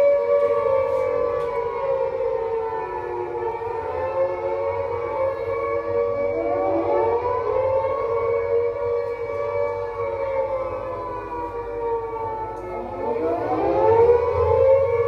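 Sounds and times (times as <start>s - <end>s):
air raid siren wailing: 0.0s - 15.0s.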